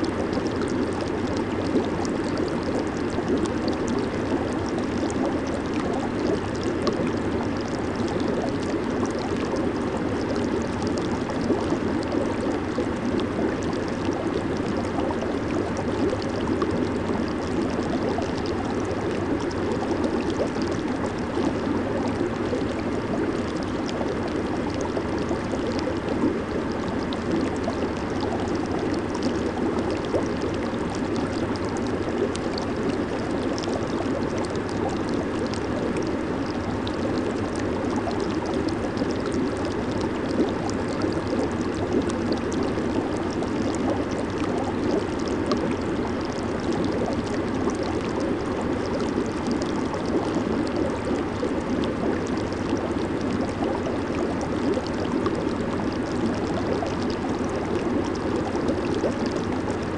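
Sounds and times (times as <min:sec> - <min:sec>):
hot tub jets churning water: 0:00.0 - 0:59.9.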